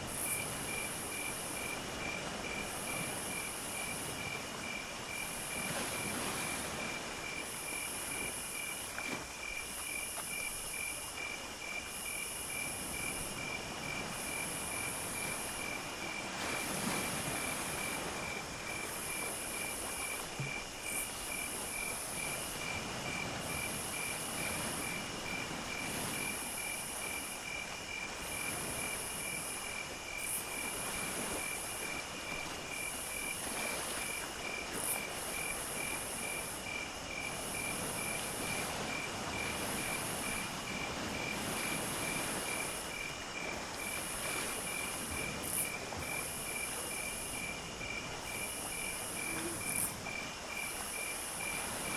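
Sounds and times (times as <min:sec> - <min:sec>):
pulsing cricket chirp: 0:00.0 - 0:51.9
soft steady hiss: 0:00.0 - 0:51.9
high insect trill: 0:00.1 - 0:51.9.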